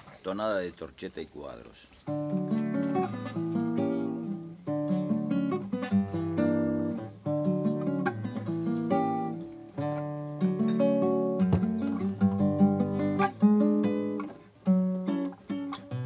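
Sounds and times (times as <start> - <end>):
acoustic guitar strummed and plucked: 2.1 - 16.0.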